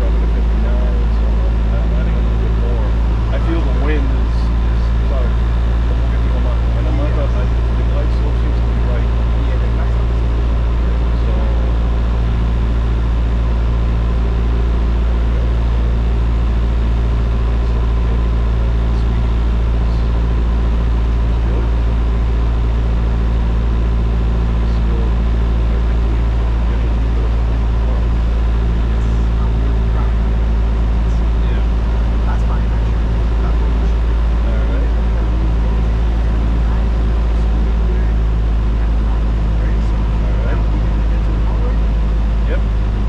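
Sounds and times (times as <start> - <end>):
light aircraft engine drone: 0.0 - 43.0.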